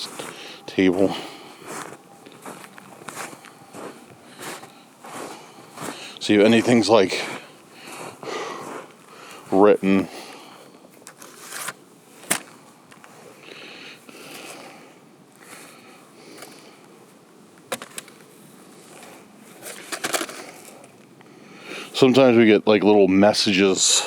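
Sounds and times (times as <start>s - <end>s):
soft rustling and scraping: 0.0s - 13.4s, 14.0s - 21.2s.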